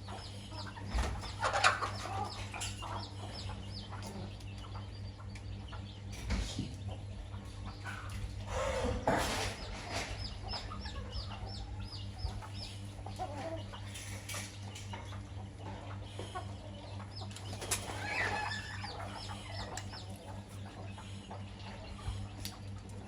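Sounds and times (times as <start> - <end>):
chickens clucking: 0.0 - 23.0
steady low hum: 0.0 - 23.0.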